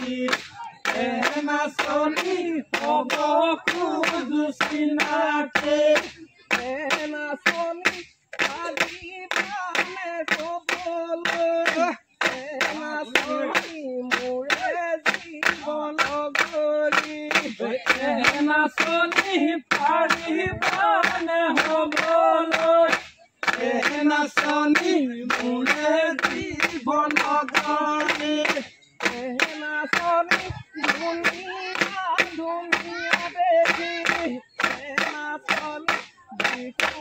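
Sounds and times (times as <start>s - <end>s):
sharp regular hand claps: 0.0s - 37.0s
voices singing folk song: 0.0s - 37.0s.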